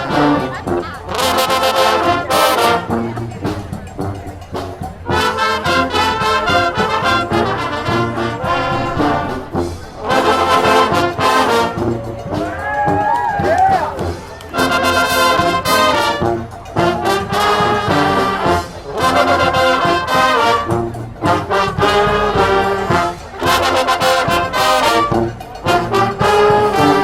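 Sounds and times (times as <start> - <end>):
percussion hits: 0.0 - 27.0
trombones and trumpets playing: 0.0 - 27.0.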